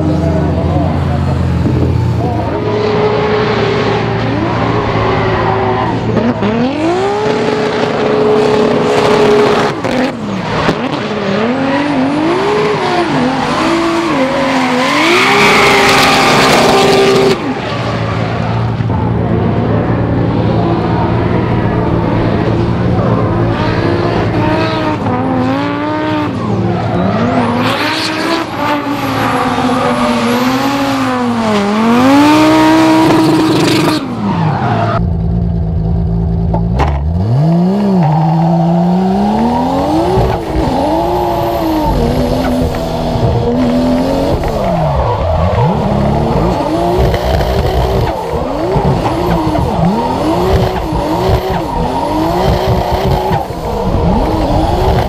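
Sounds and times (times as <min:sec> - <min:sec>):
car engine revving hard: 0:02.2 - 0:18.3, 0:20.7 - 0:35.0, 0:37.0 - 0:55.0.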